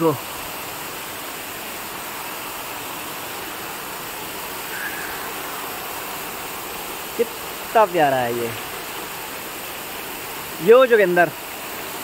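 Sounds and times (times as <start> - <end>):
fountain water splashing on stone: 0.0 - 12.0.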